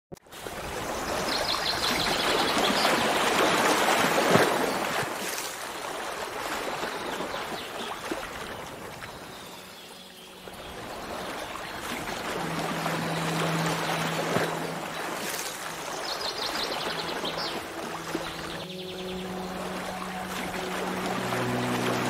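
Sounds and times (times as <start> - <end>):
water rushing: 0.3 - 22.0.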